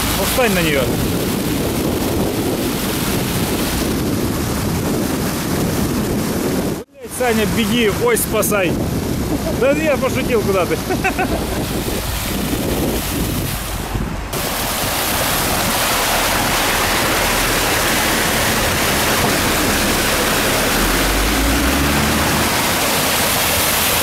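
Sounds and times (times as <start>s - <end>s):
water rushing through pipe: 0.0s - 24.0s.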